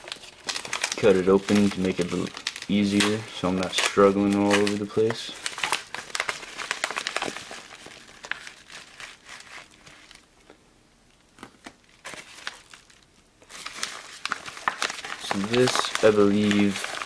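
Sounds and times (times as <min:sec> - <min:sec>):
paper mailer crinkling: 0:00.0 - 0:10.2, 0:12.0 - 0:17.0.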